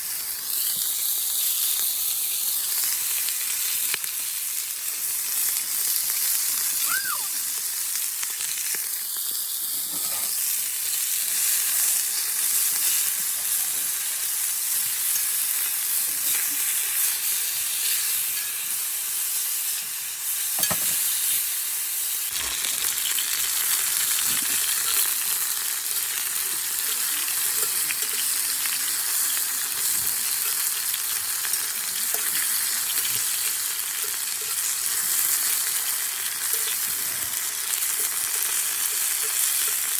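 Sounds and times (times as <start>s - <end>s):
meat sizzling in a skillet: 0.0s - 39.9s.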